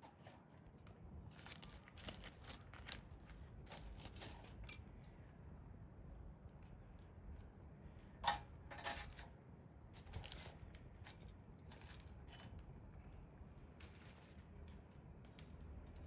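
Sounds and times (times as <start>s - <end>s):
embers popping: 0.0s - 16.0s
fire embers crackling: 0.0s - 16.0s.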